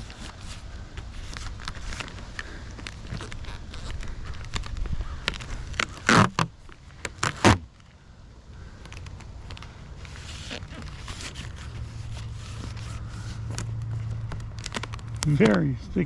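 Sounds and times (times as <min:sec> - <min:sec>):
tape ripping off roll: 0:00.0 - 0:08.0, 0:08.6 - 0:15.7
tape and plastic rustling: 0:00.0 - 0:15.9.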